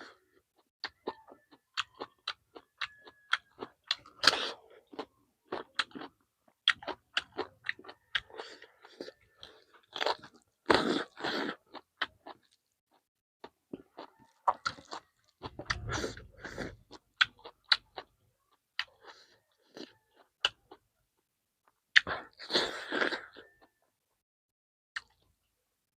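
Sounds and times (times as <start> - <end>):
person chewing and biting food: 0.0 - 18.1, 18.8 - 20.8, 21.9 - 23.8.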